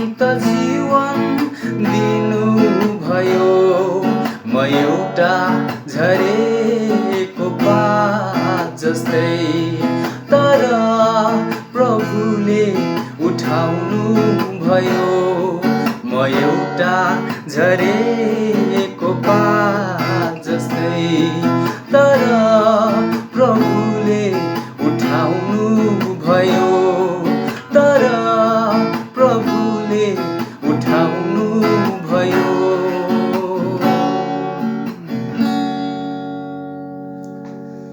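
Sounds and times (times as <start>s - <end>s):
man singing: 0.0s - 35.4s
acoustic guitar strumming: 0.0s - 37.9s.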